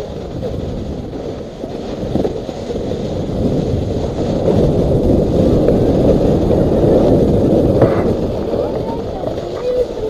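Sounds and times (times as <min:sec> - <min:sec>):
snowboard scraping over snow: 0:00.0 - 0:10.0
wind on microphone: 0:00.0 - 0:10.0.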